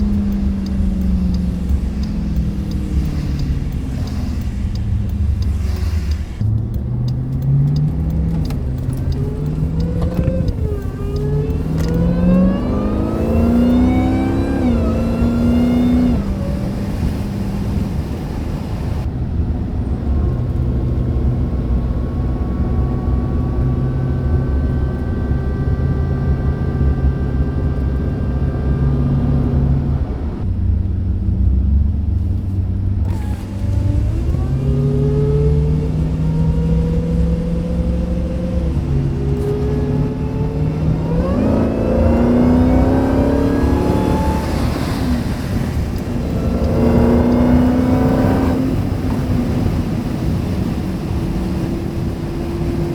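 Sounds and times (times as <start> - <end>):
car engine accelerating through upshifts: 0.0 - 19.1, 19.8 - 52.9
supercharger whine: 0.0 - 52.9.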